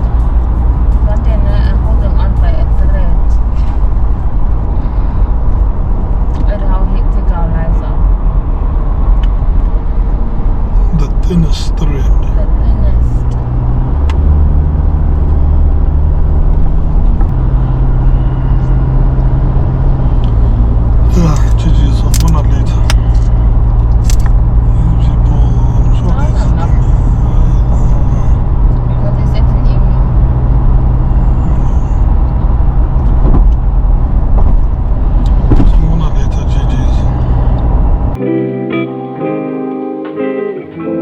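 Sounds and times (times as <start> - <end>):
car engine drone: 0.0 - 41.0
road noise: 0.0 - 41.0.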